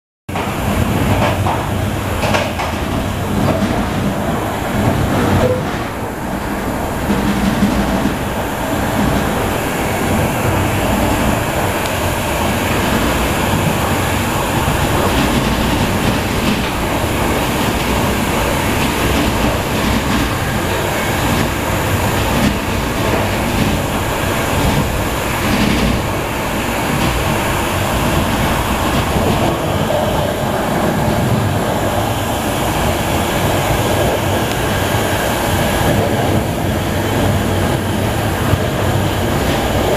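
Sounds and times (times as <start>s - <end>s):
diesel locomotive engine running: 0.3s - 39.9s
wheel-on-rail noise: 0.3s - 39.9s.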